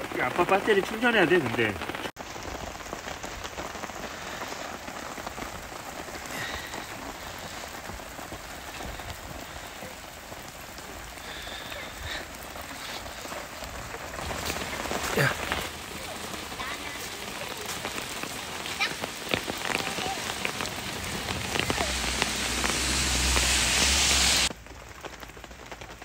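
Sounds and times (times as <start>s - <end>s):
rain on canvas tarp: 0.0s - 26.0s.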